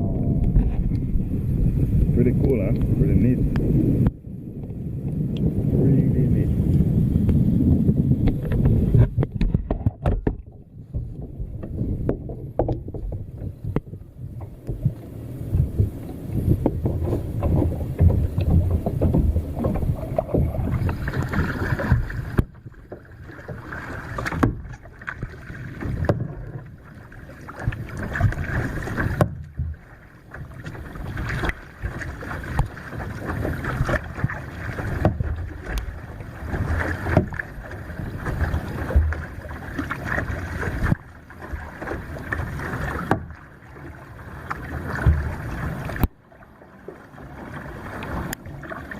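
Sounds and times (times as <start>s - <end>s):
water splashing around kayak: 0.0s - 48.9s.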